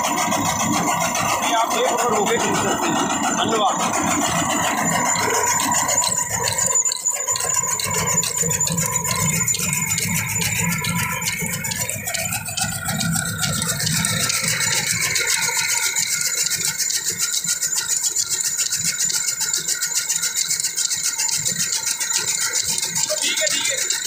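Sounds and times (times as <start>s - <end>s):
chaff cutter chopping fodder: 0.0s - 24.0s.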